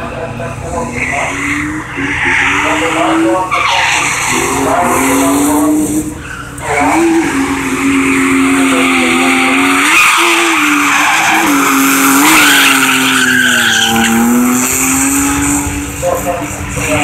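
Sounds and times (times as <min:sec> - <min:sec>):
car engine at high revs: 0:00.0 - 0:17.0
tyres screeching: 0:00.8 - 0:17.0.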